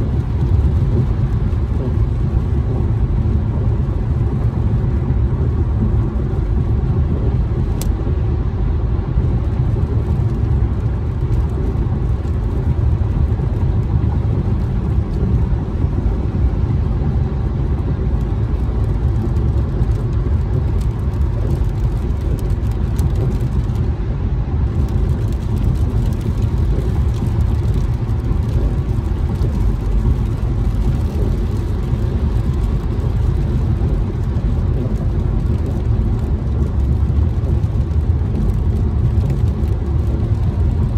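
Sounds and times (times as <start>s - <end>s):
car tyre and road noise: 0.0s - 40.9s
rain ticking on windshield: 0.0s - 40.9s.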